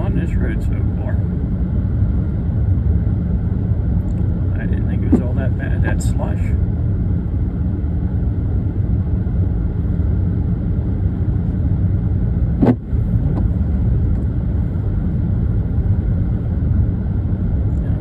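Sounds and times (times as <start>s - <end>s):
engine and tyres rumbling: 0.0s - 18.0s.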